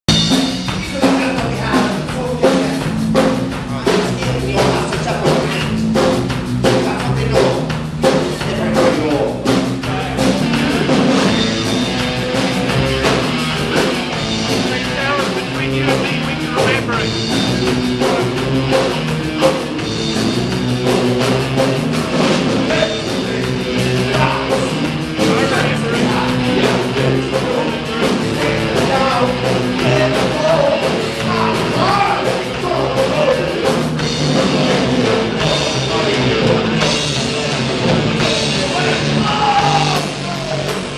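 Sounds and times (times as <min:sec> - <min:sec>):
bass guitar: 0:00.0 - 0:40.9
drum kit: 0:00.0 - 0:40.9
electric guitar: 0:00.1 - 0:40.9.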